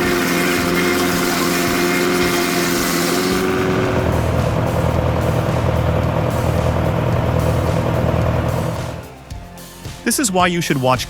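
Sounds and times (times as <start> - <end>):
engine running with low hum: 0.0 - 9.4.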